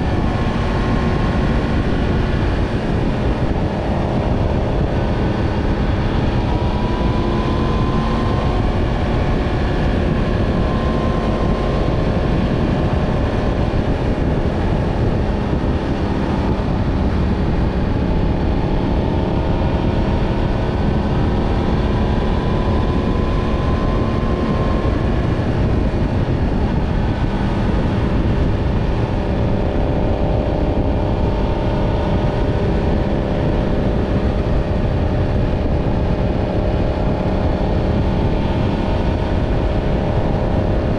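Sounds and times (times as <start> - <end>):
motorcycle engine running: 0.0 - 40.9
wind rushing: 0.0 - 40.9.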